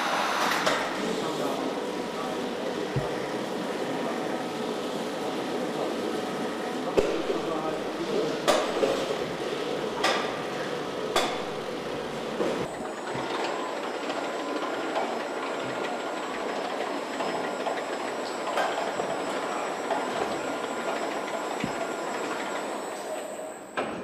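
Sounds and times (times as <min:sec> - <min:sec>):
conveyors and machinery humming: 0:00.0 - 0:24.0.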